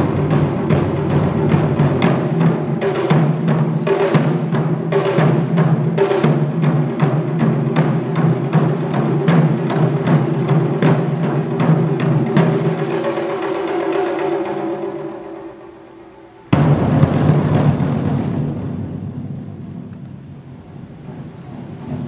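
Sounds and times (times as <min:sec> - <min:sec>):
drums booming in fast rhythm: 0:00.0 - 0:15.7, 0:16.5 - 0:22.0.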